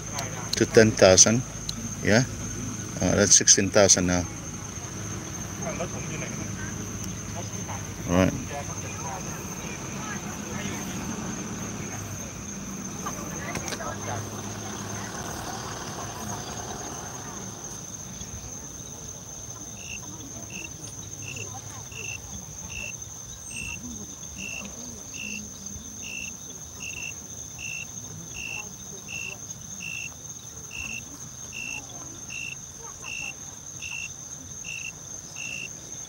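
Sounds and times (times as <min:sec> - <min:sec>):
insect high-pitched drone: 0:00.0 - 0:36.0
insect short chirp: 0:00.0 - 0:36.0.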